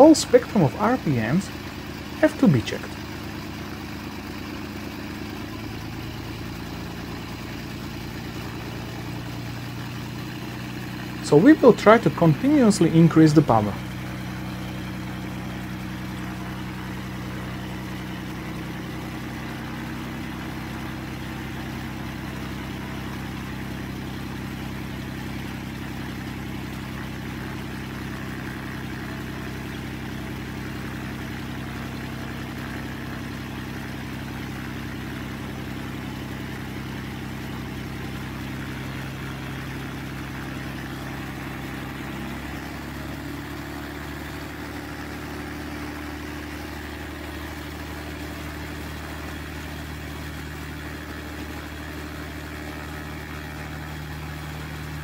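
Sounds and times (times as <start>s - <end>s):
propeller aircraft engine running: 0.0s - 55.0s.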